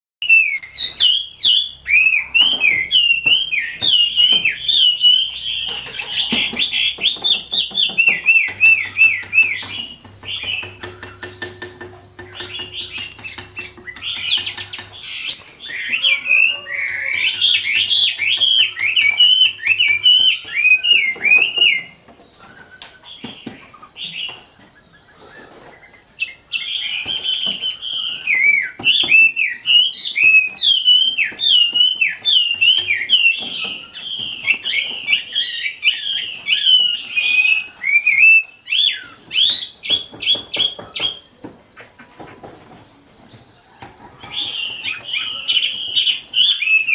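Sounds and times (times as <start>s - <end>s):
songbird singing: 0.2s - 46.9s.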